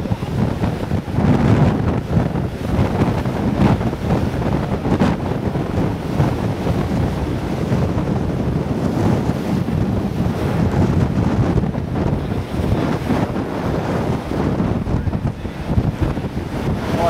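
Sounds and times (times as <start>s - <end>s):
rushing water: 0.0s - 17.0s
wind buffeting microphone: 0.0s - 17.0s.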